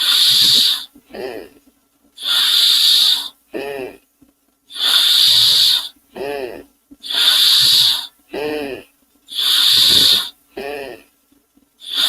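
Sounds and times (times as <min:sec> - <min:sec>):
person imitating steam engine: 0:00.0 - 0:01.6, 0:02.2 - 0:04.0, 0:04.7 - 0:11.1.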